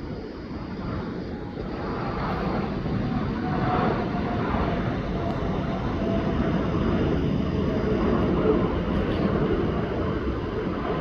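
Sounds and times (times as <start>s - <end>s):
faint engine whine: 0.0s - 11.0s.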